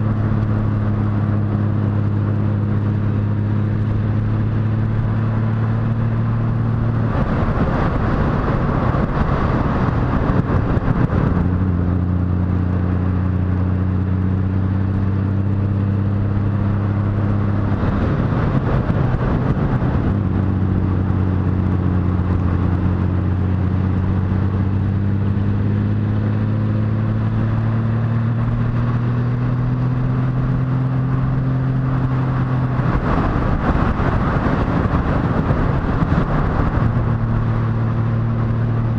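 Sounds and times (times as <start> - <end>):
motorcycle engine humming: 0.0 - 38.9.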